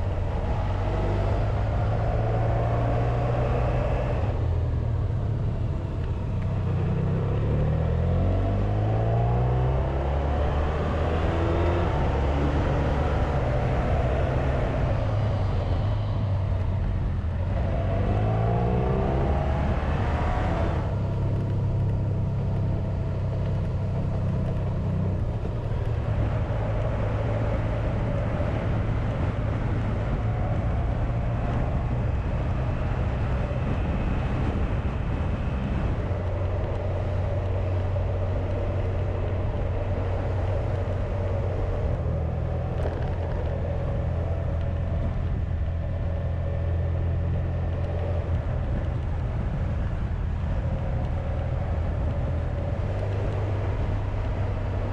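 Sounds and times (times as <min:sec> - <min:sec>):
wind rush: 0:09.7 - 0:54.9.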